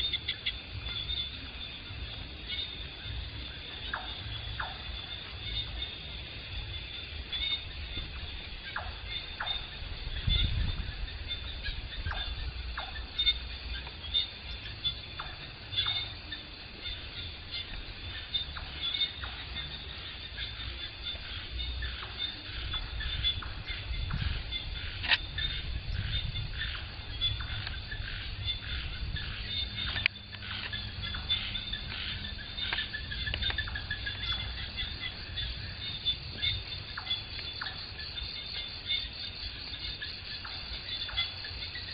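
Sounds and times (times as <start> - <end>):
low rumble: 0.0 - 37.6
insects chirring: 0.0 - 41.9.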